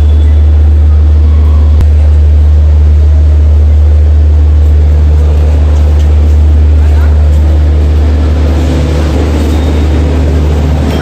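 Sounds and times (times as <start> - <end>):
low droning rumble: 0.0 - 11.0.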